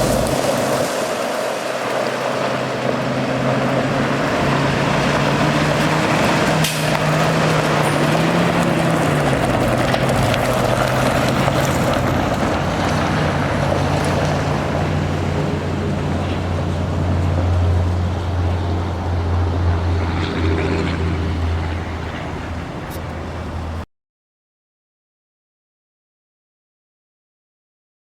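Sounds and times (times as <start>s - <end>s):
diesel engine running: 0.0s - 23.8s.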